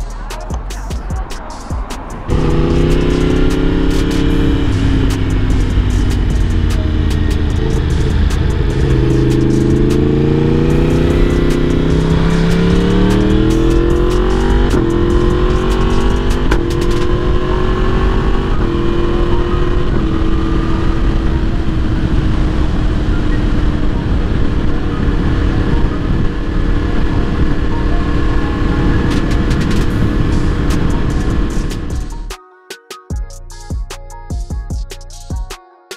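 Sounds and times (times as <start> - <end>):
motorcycle engine accelerating: 0.0 - 32.3
wind noise: 0.6 - 32.2.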